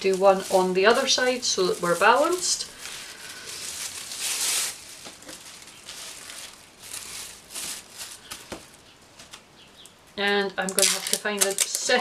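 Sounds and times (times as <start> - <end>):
plastic bags rustling: 0.0 - 9.5, 10.6 - 12.0.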